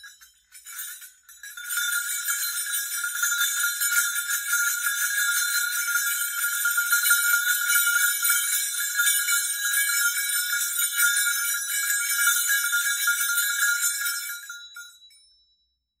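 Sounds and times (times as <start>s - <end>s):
bells jingling: 0.0s - 15.5s
steady bell tones: 0.0s - 15.6s.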